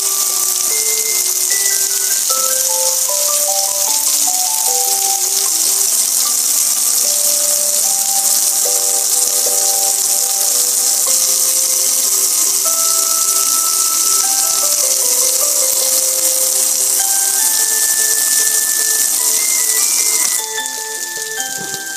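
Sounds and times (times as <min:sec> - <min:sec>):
simple toy-like melody: 0:00.0 - 0:21.9
water splashing over grill: 0:00.0 - 0:21.9.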